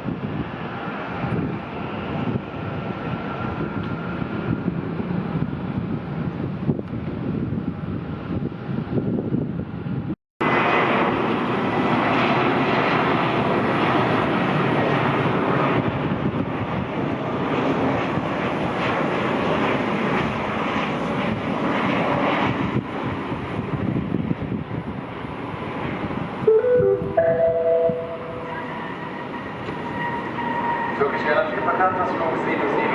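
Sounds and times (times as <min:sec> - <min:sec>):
jet engines rushing: 0:00.0 - 0:32.9.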